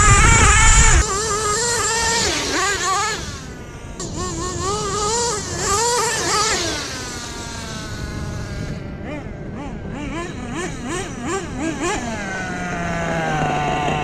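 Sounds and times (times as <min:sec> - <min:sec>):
low wind rumble: 0:00.0 - 0:14.0
toy truck engine revving: 0:00.0 - 0:14.0.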